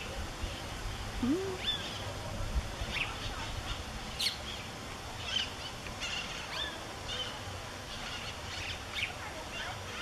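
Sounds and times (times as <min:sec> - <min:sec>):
songbirds chirping: 0:00.0 - 0:10.0.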